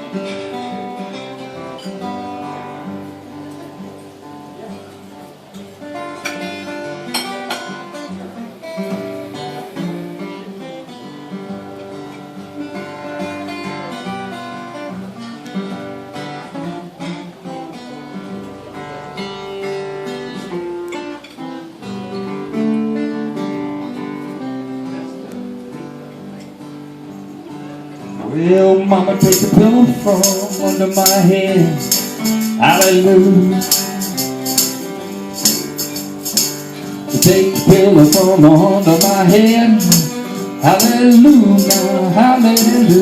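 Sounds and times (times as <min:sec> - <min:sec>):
acoustic guitar playing: 0:00.0 - 0:43.0.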